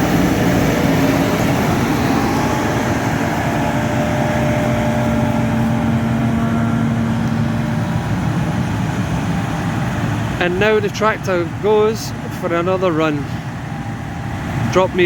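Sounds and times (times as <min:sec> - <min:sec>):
diesel engine drone: 0:00.0 - 0:15.0
steady hum: 0:00.0 - 0:15.0.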